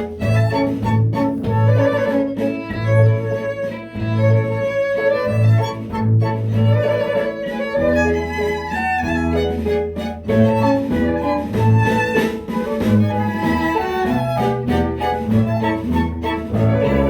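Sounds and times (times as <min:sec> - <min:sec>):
cello: 0:00.0 - 0:17.0
violin melody: 0:00.0 - 0:17.0.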